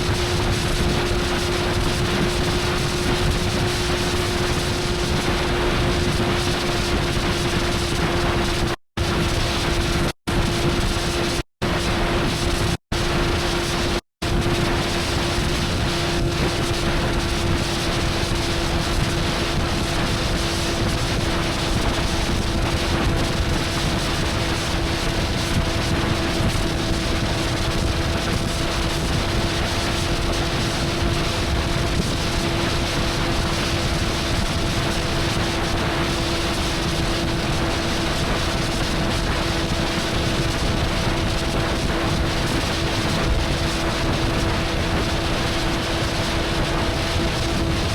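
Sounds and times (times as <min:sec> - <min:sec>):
wind rush on microphone: 0:00.0 - 0:47.9.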